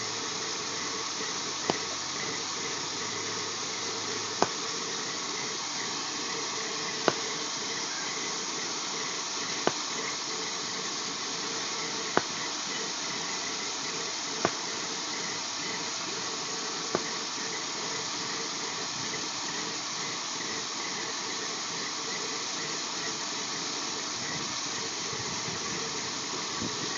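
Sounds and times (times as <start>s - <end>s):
water spraying from a leak: 0.0s - 26.9s.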